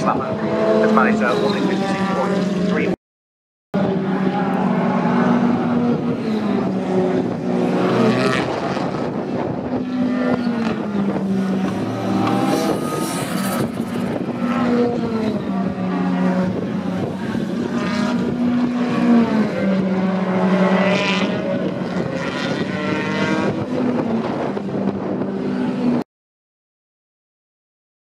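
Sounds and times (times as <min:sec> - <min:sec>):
race car engine revving: 0:00.0 - 0:03.0, 0:03.8 - 0:26.0.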